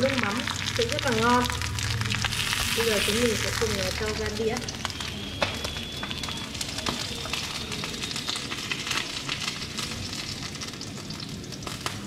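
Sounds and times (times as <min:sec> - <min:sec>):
fish frying in sizzling oil: 0:00.0 - 0:12.0.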